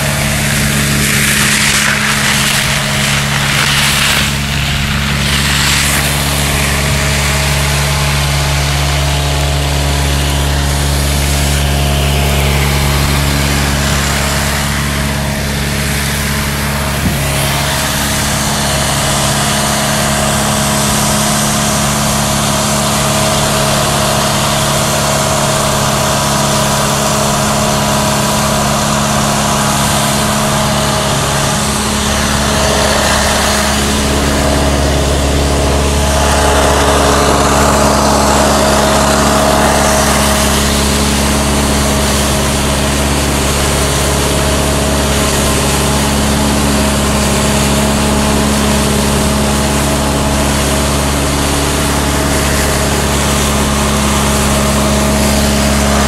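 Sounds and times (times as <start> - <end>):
truck engine and blower running: 0.0 - 56.0.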